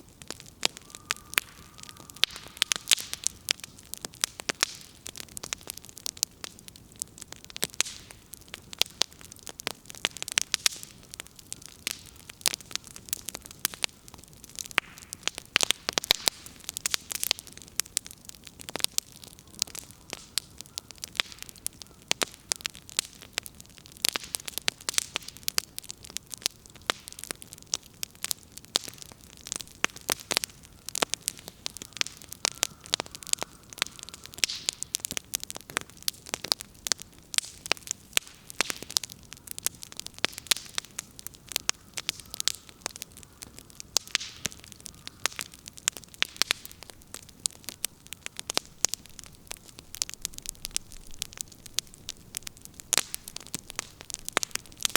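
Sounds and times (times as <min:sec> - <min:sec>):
bonfire crackling and popping: 0:00.0 - 0:54.9.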